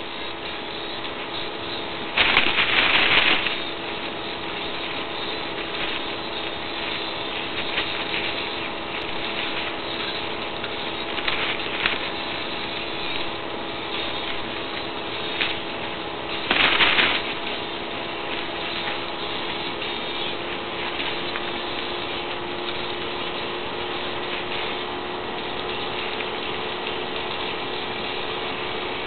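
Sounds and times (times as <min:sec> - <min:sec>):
steady hum: 0:00.0 - 0:29.0
plastic bag crinkling: 0:01.5 - 0:29.0.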